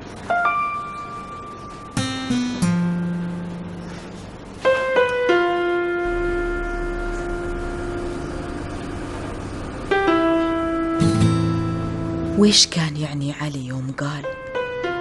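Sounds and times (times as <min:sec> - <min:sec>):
slow keyboard notes: 0:00.0 - 0:12.5.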